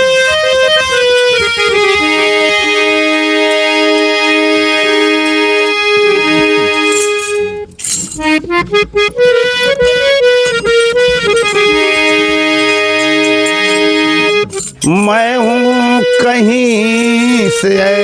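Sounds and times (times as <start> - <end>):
harmonium chords: 0.0 - 18.0
short stepping melody: 0.0 - 18.0.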